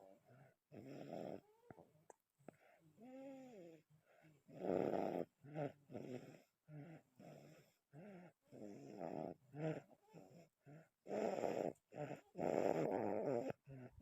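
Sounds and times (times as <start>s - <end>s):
snoring: 0.3s - 1.8s, 2.5s - 14.0s.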